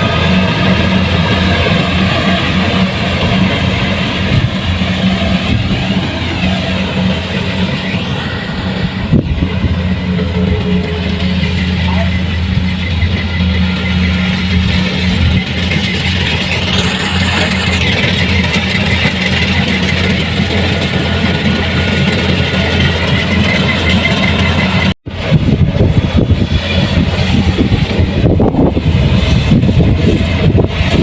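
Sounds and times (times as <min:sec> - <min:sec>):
combine harvester engine drone: 0:00.0 - 0:31.0
fast mechanical chatter: 0:00.0 - 0:31.0.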